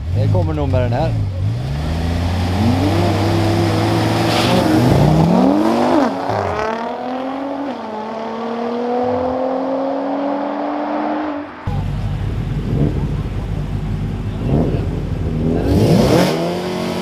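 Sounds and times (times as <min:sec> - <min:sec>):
car engine low rumble: 0:00.0 - 0:17.0
race car engines revving: 0:00.0 - 0:17.0.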